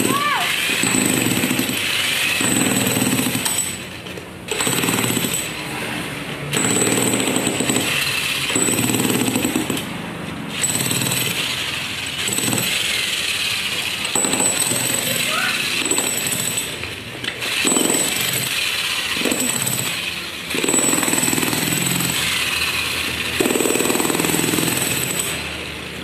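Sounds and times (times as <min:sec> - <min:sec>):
jackhammer chiselling concrete: 0:00.0 - 0:09.9, 0:10.5 - 0:26.0.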